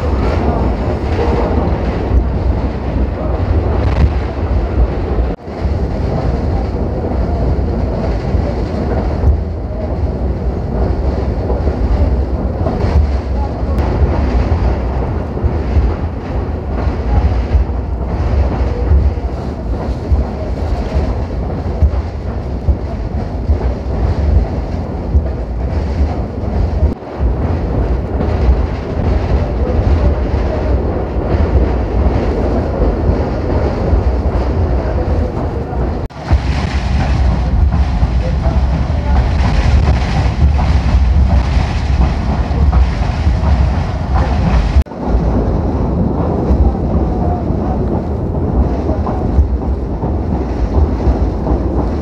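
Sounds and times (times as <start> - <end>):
rush of air: 0.0 - 52.0
train rumbling along track: 0.0 - 52.0.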